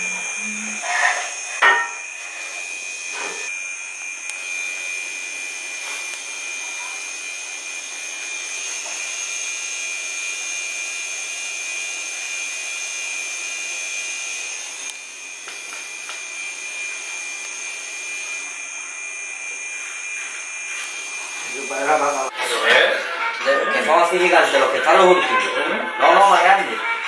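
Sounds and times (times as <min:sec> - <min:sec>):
tattoo machine whine: 0:00.0 - 0:25.2.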